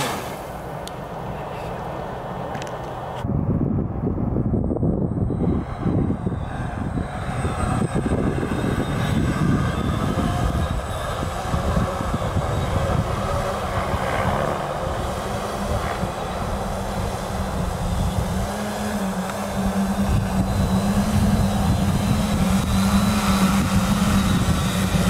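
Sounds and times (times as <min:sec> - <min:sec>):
drone propellers droning: 0:00.0 - 0:25.0
noisy rumble: 0:00.0 - 0:25.0.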